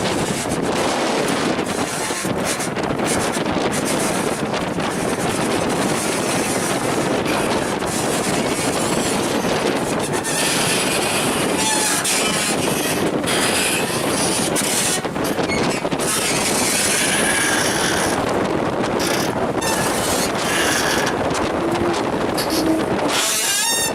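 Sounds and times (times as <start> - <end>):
gale-force wind buffeting microphone: 0.0 - 23.9.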